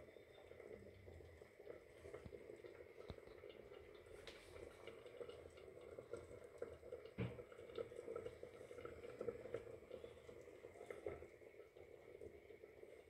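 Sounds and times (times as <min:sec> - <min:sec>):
hot fat crackling and bubbling: 0:00.0 - 0:13.0.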